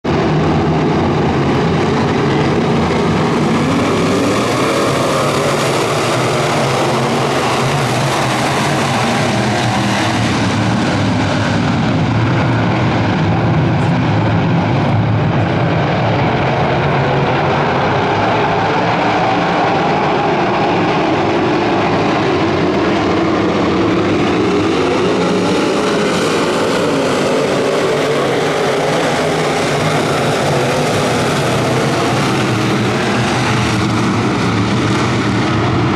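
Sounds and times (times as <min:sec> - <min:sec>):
race car engines roaring: 0:00.0 - 0:35.9.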